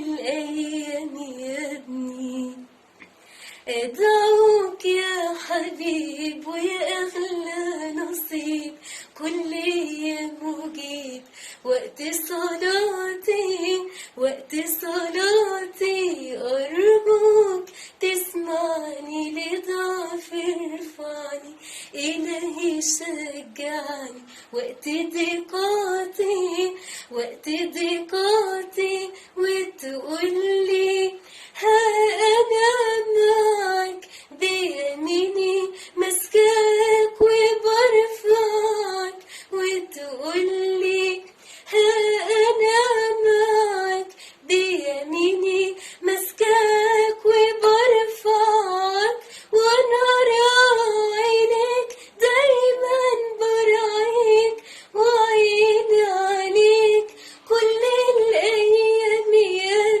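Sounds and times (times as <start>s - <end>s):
woman singing a hymn: 0.0s - 2.7s, 3.6s - 60.0s.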